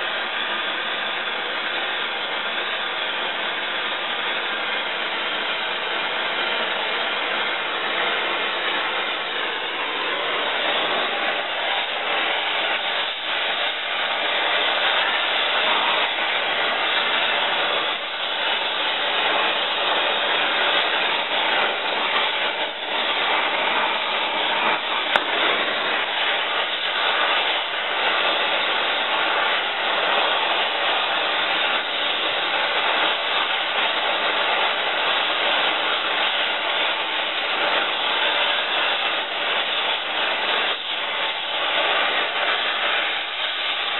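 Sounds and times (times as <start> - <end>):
torch flame hissing: 0.0 - 43.9.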